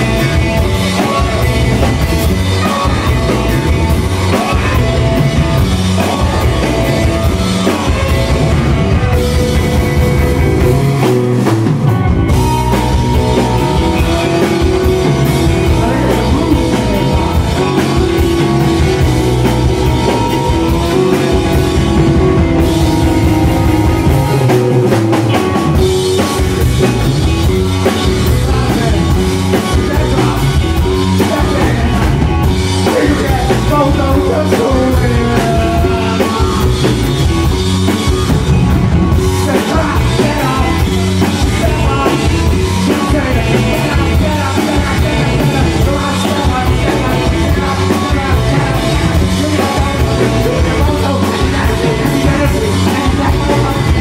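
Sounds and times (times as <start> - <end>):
drum kit beat: 0.0 - 54.0
electric guitars: 0.0 - 54.0
vocals: 0.0 - 54.0.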